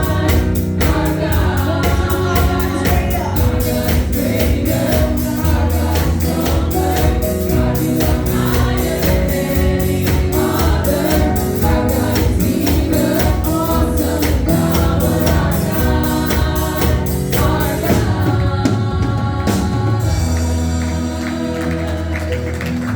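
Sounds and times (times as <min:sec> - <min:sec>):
band with steady drum beat: 0:00.0 - 0:22.9
choir singing gospel: 0:00.0 - 0:22.9.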